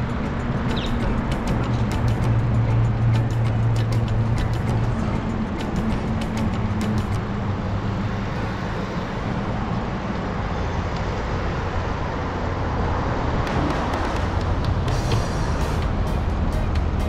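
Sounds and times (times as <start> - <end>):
road and traffic noise: 0.0 - 17.0.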